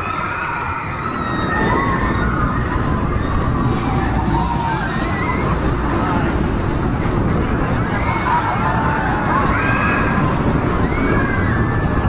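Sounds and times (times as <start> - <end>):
distant people screaming: 0.0 - 12.0
wind rushing: 0.0 - 12.0.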